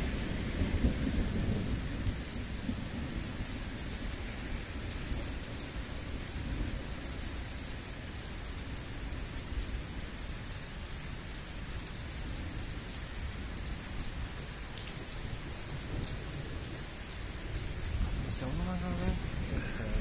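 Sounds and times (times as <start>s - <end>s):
heavy rain falling: 0.0s - 20.0s
raindrops ticking near microphone: 0.0s - 20.0s.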